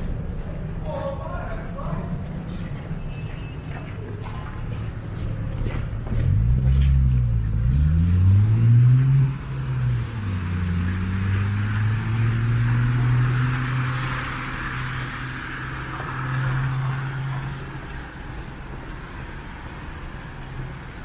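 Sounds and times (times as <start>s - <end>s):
tyre noise on road: 0.0s - 21.0s
vehicle engine hum: 0.0s - 21.0s.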